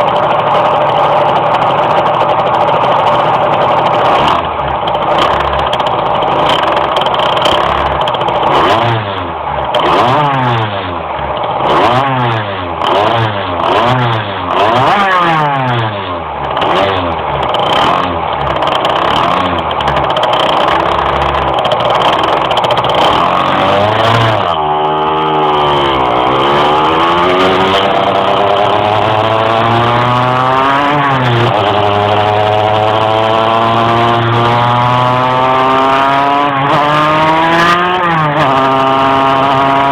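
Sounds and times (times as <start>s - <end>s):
two-stroke moped engine revving: 0.0s - 39.9s.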